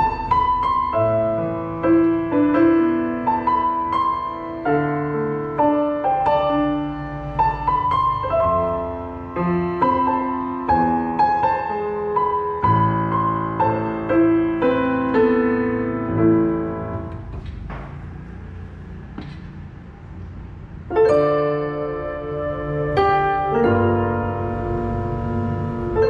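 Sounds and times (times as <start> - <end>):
digital piano melody: 0.0 - 17.4, 20.7 - 26.0.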